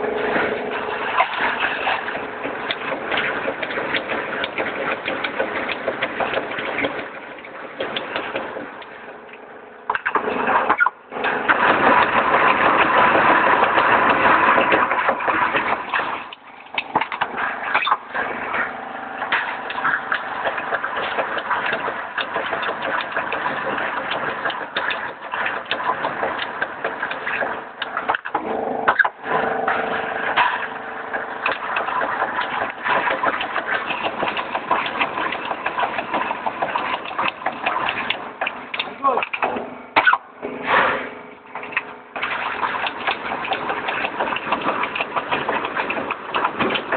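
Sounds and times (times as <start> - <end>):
roll forming machine running: 0.0 - 46.9
sharp mechanical clicks and knocks: 0.4 - 46.9.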